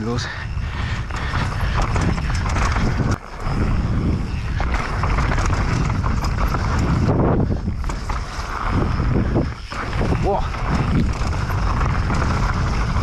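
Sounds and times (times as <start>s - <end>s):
mountain bike rattling over trail: 0.0s - 13.0s.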